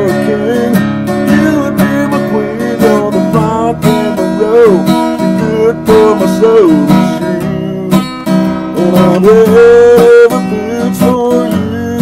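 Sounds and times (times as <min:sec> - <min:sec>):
acoustic guitar strumming: 0:00.0 - 0:12.0
man singing: 0:00.0 - 0:12.0.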